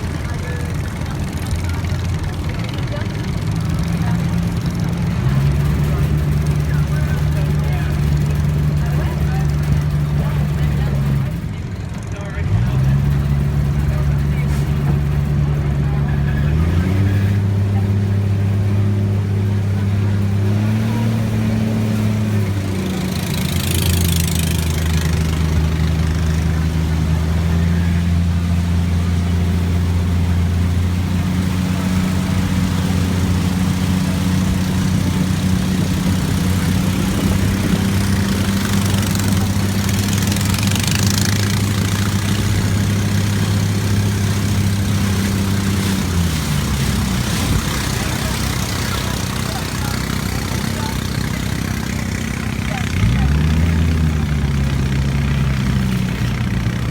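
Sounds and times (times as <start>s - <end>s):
boat engine humming: 0.0s - 56.9s.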